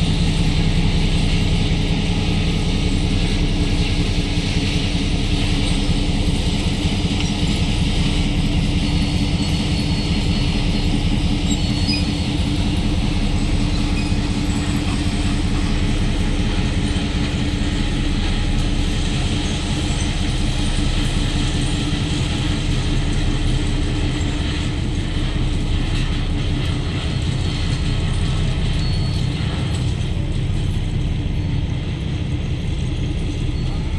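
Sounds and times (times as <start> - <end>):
diesel locomotive running: 0.0 - 33.9.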